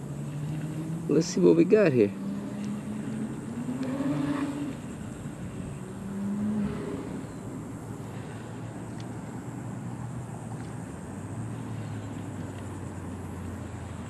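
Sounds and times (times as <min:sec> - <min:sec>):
engine hum: 0:00.0 - 0:14.0.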